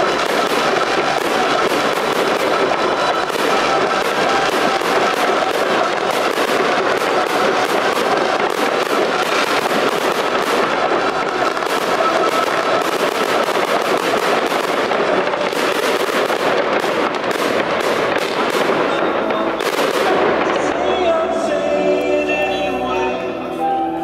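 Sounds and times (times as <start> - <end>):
fireworks bangs and crackles: 0.0 - 23.1.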